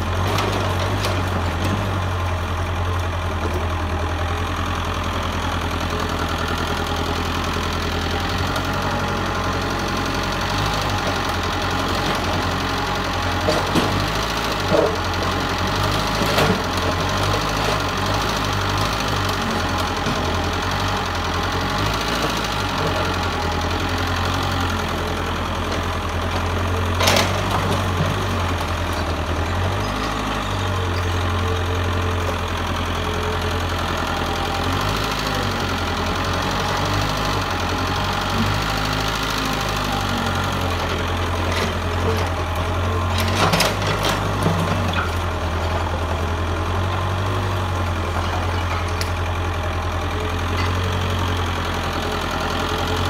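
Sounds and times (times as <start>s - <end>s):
excavator diesel engine droning: 0.0s - 53.0s.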